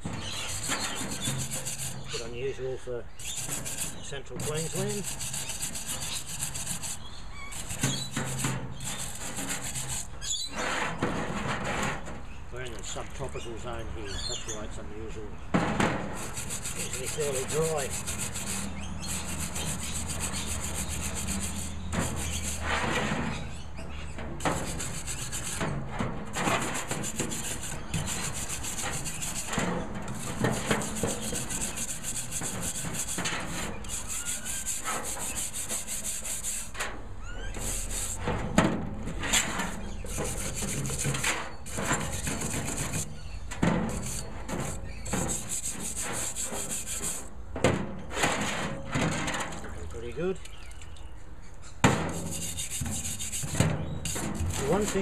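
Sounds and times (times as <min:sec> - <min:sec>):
wire brush scrubbing metal: 0:00.0 - 0:13.7, 0:14.5 - 0:50.4, 0:51.8 - 0:55.0.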